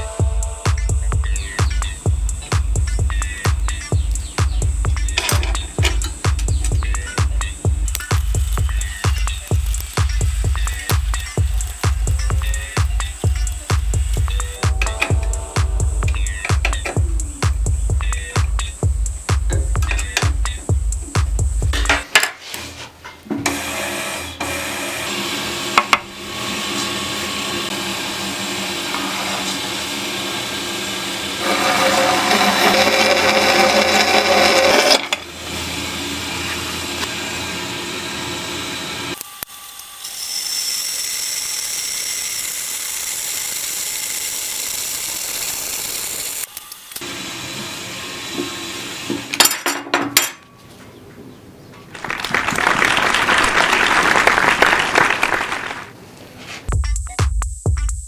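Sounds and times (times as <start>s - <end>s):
bandsaw cutting metal: 1.4s - 22.1s, 23.4s - 50.4s.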